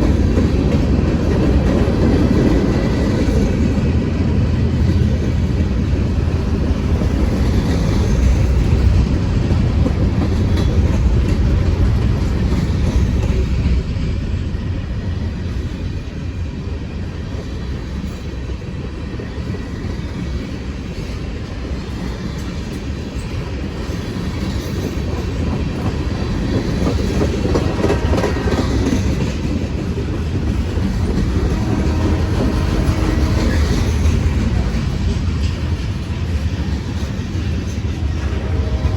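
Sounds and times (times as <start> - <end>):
freight train low rumble: 0.0 - 38.9.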